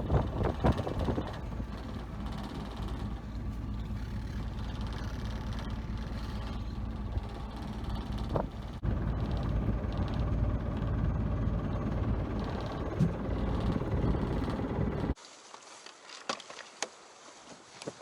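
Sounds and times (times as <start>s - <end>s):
boat engine running: 0.0s - 15.2s
wind buffeting microphone: 0.0s - 15.2s.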